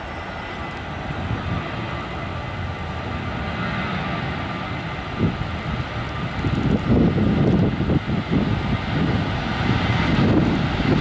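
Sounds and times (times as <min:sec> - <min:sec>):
jet engines rumbling with whine: 0:00.0 - 0:11.0.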